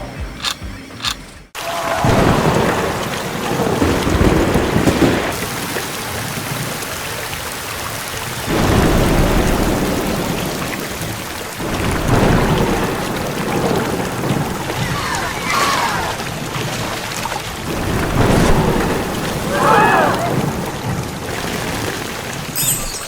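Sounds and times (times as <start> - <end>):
heavy rain: 1.6 - 22.6
thunder rumbling: 1.6 - 22.6.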